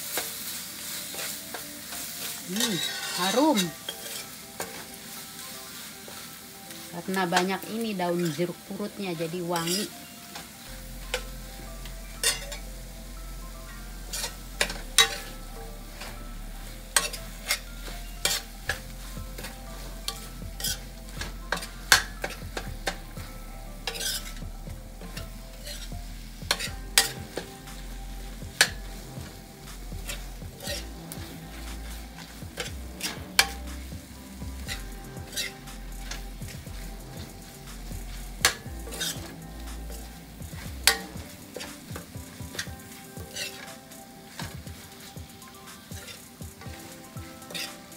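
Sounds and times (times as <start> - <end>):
spice paste sizzling in oil: 0.0 - 47.9
metal spoon scraping a wok: 0.1 - 5.3, 9.6 - 11.4, 12.2 - 12.7, 14.0 - 23.1, 23.8 - 33.7, 34.6 - 40.1, 40.8 - 47.9.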